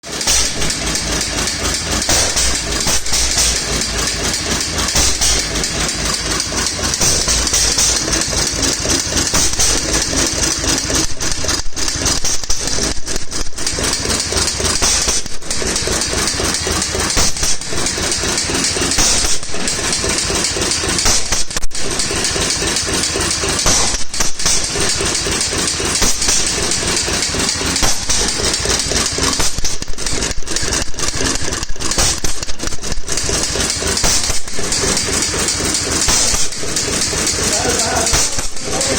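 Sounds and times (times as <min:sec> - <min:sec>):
stationary gas engine running: 0:00.0 - 0:38.9.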